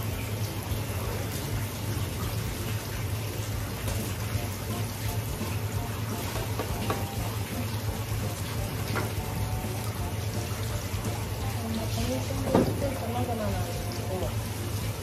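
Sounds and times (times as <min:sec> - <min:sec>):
tap water running: 0:00.0 - 0:15.0.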